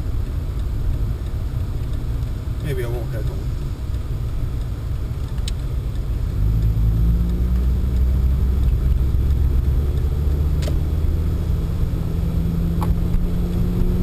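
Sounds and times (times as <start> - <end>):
car engine while driving: 0.0 - 14.0.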